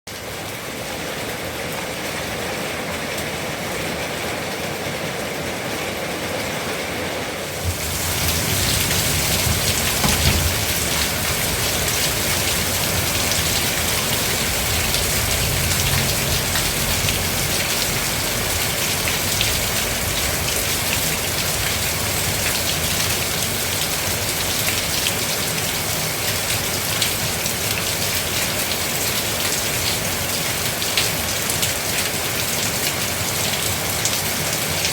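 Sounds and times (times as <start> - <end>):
rain pattering on surfaces: 0.1 - 34.9.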